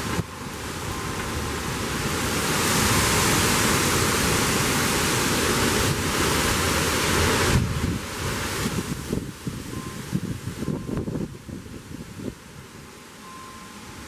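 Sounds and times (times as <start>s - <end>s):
storm winds roaring: 0.0s - 13.0s.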